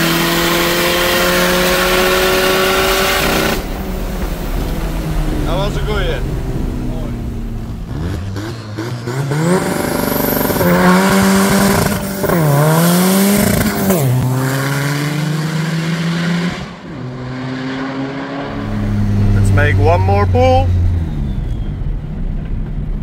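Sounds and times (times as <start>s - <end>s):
turbocharged car engine accelerating: 0.0s - 23.0s.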